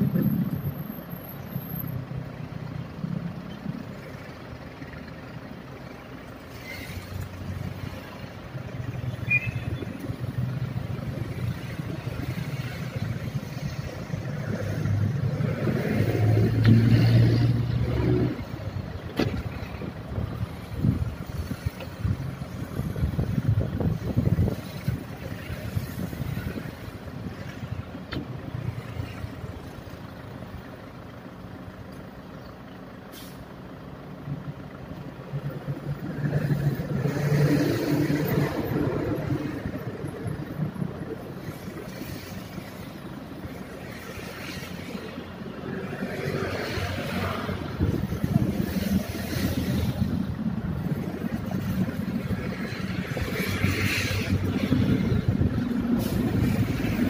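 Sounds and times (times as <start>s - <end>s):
highway traffic rumble: 0.0s - 57.0s.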